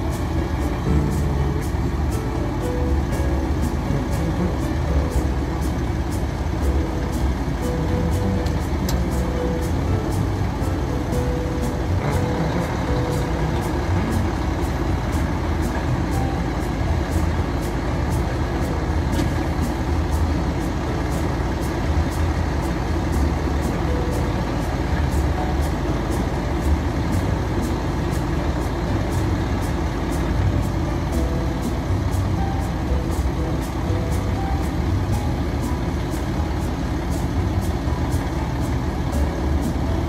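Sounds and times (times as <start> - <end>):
garbage truck diesel engine rumble: 0.0 - 40.0
hydraulic arm lifting cart: 0.0 - 40.0.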